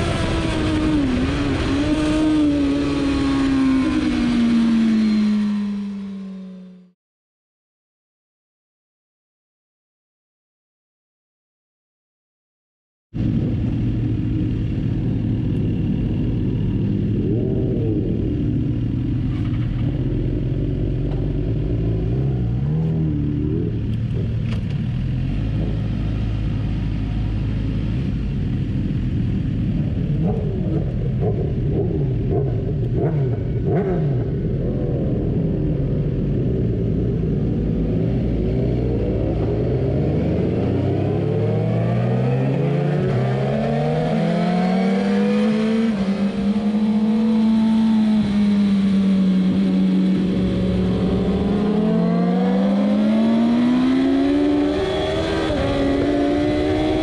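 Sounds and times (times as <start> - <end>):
another motorcycle revving: 0.0 - 6.9, 13.2 - 57.0
motorcycle engine accelerating: 0.0 - 7.0, 13.2 - 57.0.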